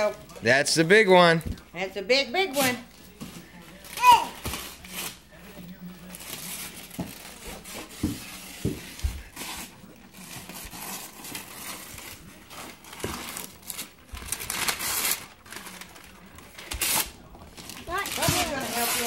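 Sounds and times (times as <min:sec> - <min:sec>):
wrapping paper tearing and rustling: 0:03.6 - 0:19.0.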